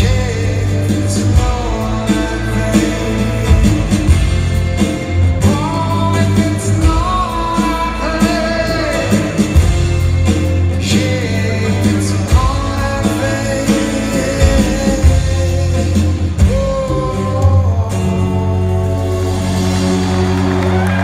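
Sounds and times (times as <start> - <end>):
man singing: 0.0 - 19.7
rock band playing live: 0.0 - 21.0.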